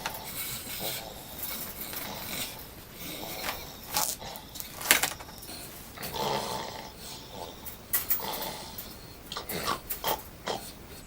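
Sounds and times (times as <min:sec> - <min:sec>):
man snoring: 0:00.0 - 0:11.0.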